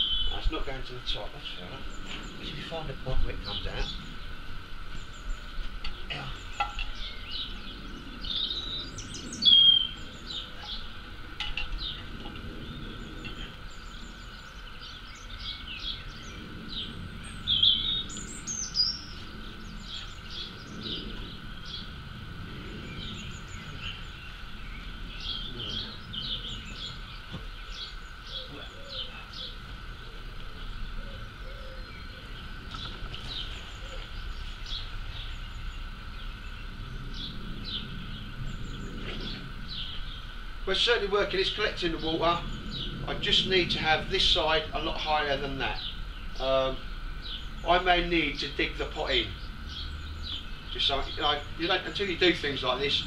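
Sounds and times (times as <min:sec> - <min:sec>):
faint steady background hum: 0:00.0 - 0:53.0
small birds chirping and singing: 0:00.0 - 0:53.0.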